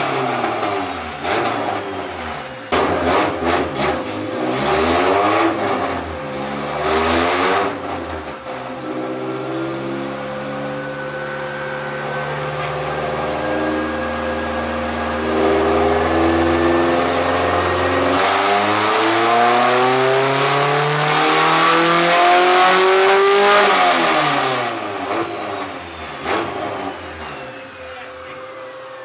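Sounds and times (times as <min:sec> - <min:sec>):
four-cylinder engine revving: 0:00.0 - 0:29.0.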